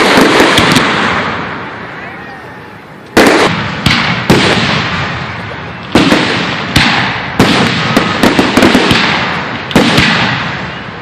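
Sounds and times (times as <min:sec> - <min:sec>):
crackling echoing decay: 0:00.0 - 0:11.0.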